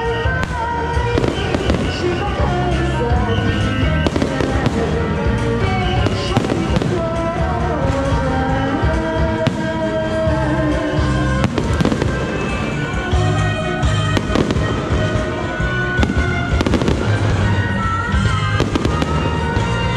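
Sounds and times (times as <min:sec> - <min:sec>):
fireworks crackling: 0:00.0 - 0:19.9
fireworks bangs: 0:00.4 - 0:19.9.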